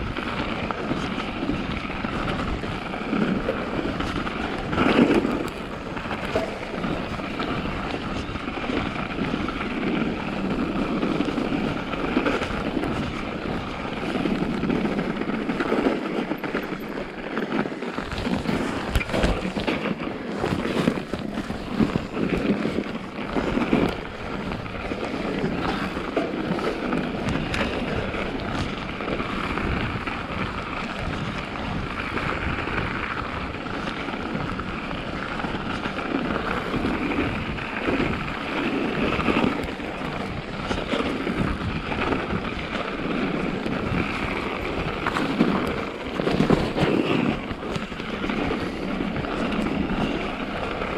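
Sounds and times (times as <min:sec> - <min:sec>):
bike tyres on snow: 0:00.0 - 0:50.9
wind on microphone: 0:00.0 - 0:50.9.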